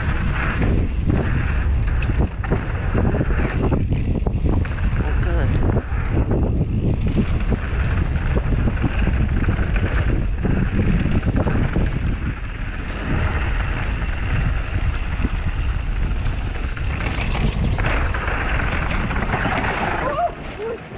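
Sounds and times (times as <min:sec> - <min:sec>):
bike knocking and rattling: 0:00.0 - 0:20.9
tyres rumbling over gravel: 0:00.0 - 0:20.9
wind buffeting microphone: 0:00.0 - 0:20.9.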